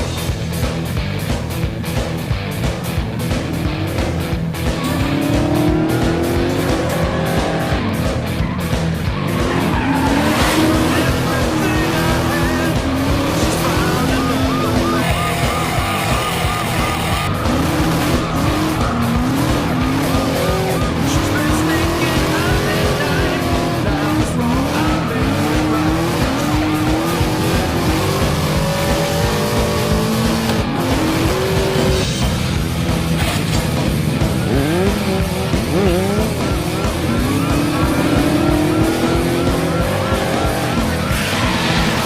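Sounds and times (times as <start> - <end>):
motorcycle engines revving: 0.0 - 42.0
rock music: 0.0 - 42.0
tires skidding: 3.1 - 42.0.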